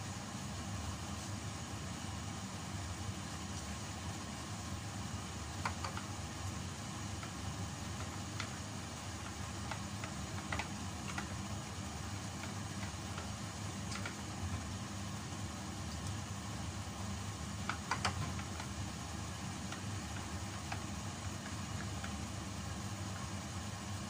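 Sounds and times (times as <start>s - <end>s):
steady low hum: 0.0s - 24.0s
sauce simmering with pops: 3.2s - 23.7s.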